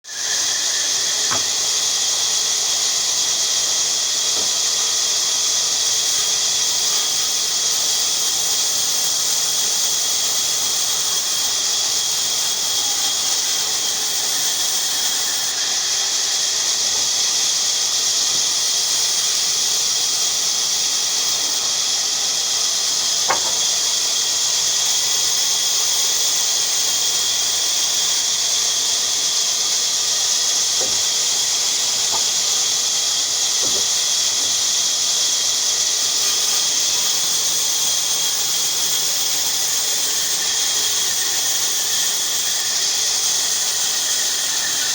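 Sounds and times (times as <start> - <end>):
bandsaw running: 0.0 - 44.9.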